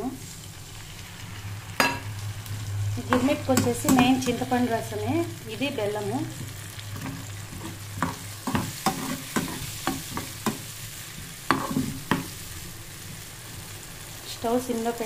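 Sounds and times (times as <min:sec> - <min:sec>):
frying sizzle: 0:00.0 - 0:15.0.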